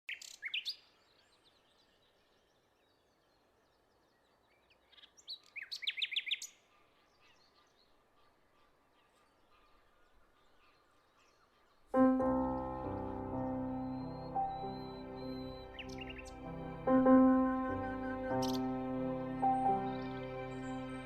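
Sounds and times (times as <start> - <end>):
small birds chirping: 0.1 - 21.0.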